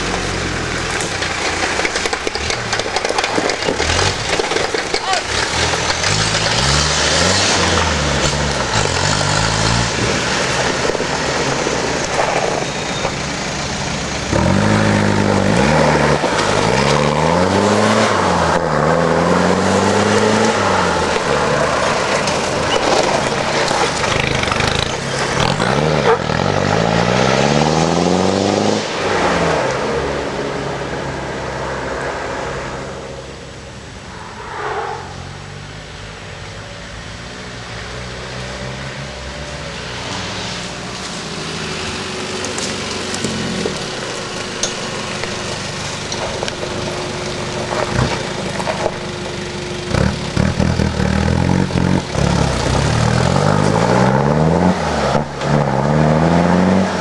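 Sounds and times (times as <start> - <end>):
off-road engine revving: 0.0 - 33.1, 38.0 - 57.0.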